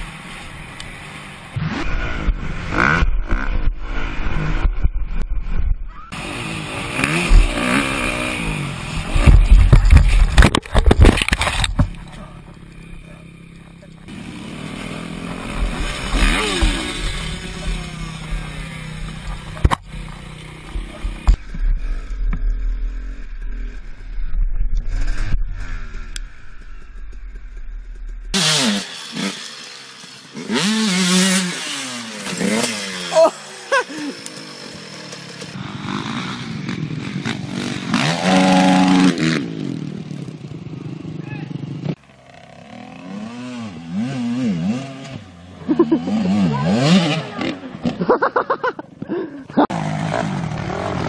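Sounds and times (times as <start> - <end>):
dirt bike engine revving: 0.0 - 4.7, 6.1 - 10.5, 11.2 - 22.1, 28.3 - 48.8, 49.5 - 51.0.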